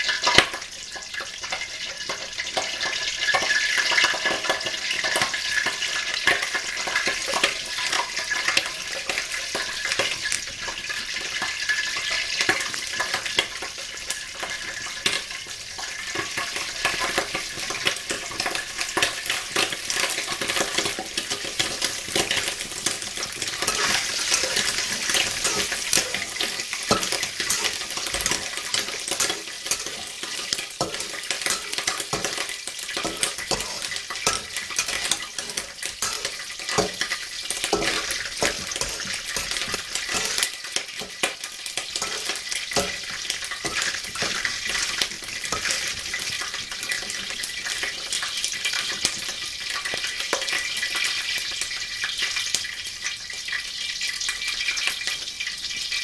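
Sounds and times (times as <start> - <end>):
peanuts sizzling in oil: 0.0 - 56.0
metal ladle scraping a pan: 0.2 - 50.6.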